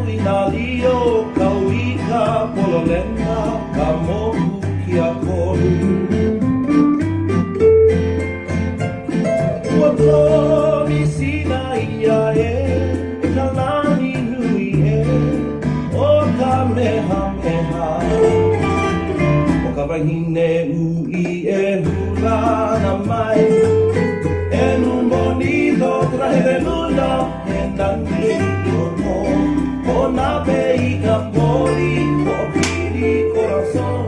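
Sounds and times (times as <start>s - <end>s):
man singing: 0.0s - 6.5s, 9.6s - 34.0s
steady bass: 0.0s - 21.0s, 21.8s - 34.0s
acoustic guitar: 0.0s - 34.0s.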